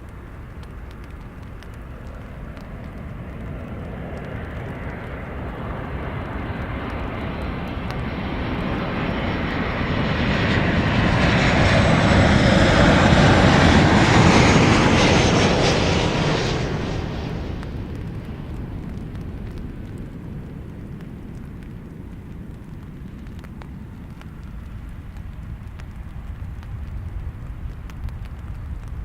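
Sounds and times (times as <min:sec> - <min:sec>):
airliner engines passing: 0:00.0 - 0:29.0.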